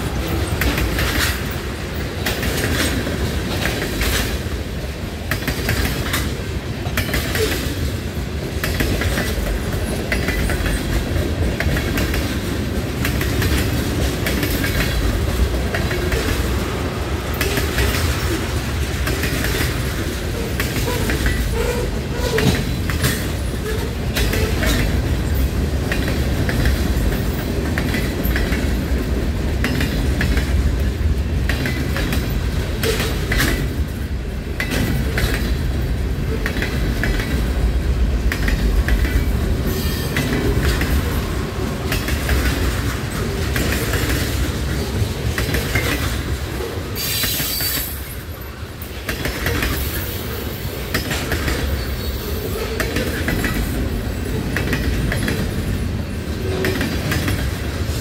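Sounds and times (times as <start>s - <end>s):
train wheels rumbling: 0.0s - 58.0s
wheels clanking on rails: 0.0s - 58.0s.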